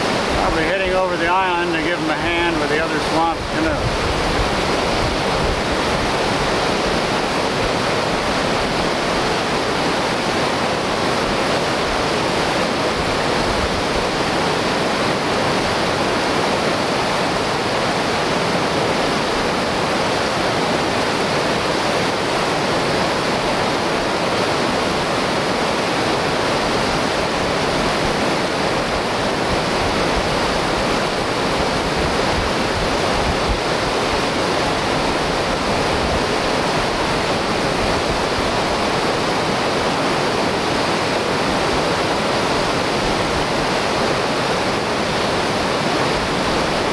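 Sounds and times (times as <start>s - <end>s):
river rapid rushing: 0.0s - 46.9s.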